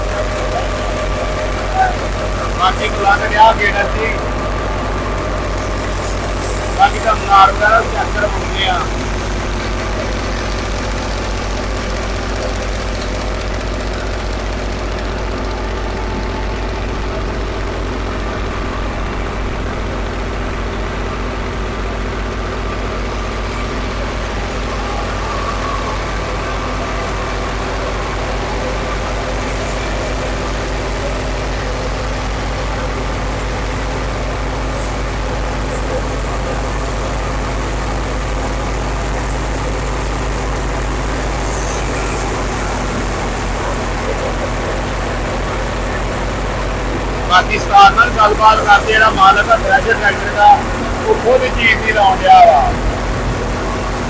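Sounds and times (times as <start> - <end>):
thresher drum and straw feeding: 0.0 - 54.0
tractor diesel engine running: 0.0 - 54.0.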